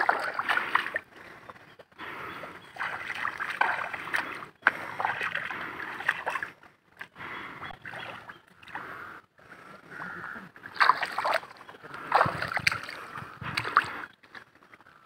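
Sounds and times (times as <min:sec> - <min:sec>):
footsteps splashing through water: 0:00.0 - 0:09.0, 0:10.6 - 0:14.9.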